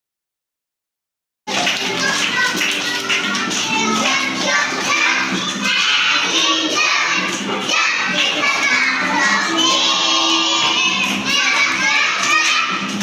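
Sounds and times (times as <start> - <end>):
background music: 1.5 - 13.0
children singing and shouting: 1.5 - 13.0.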